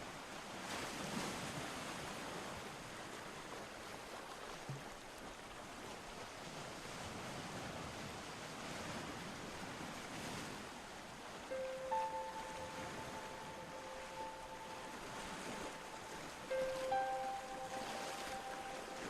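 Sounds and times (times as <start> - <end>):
ocean waves washing: 0.2 - 19.0.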